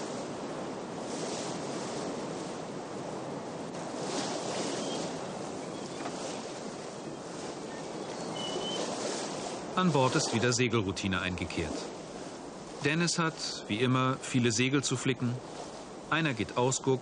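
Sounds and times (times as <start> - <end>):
sea water rushing along hull: 0.0 - 17.0
wind: 0.0 - 17.0.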